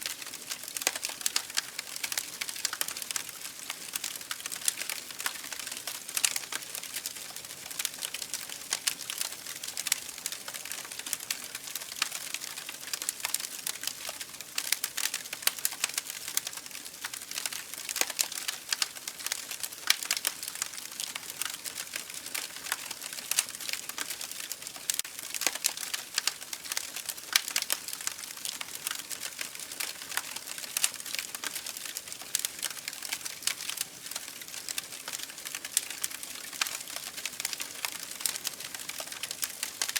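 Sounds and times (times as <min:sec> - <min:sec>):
campfire crackling and hissing: 0:00.0 - 0:39.9.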